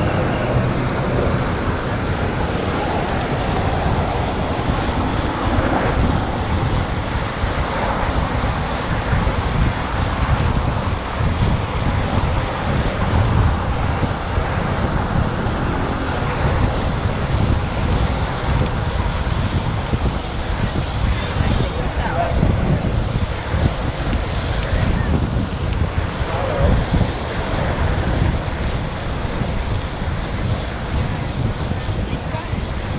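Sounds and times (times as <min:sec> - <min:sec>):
traffic noise: 0:00.0 - 0:32.9
wind buffeting microphone: 0:00.0 - 0:32.9.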